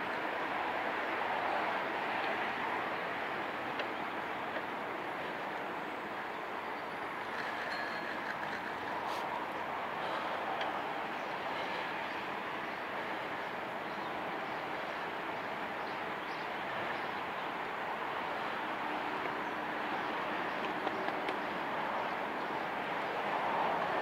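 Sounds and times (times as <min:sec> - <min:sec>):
bicycle road noise: 0:00.0 - 0:24.0
rushing wind: 0:00.0 - 0:24.0.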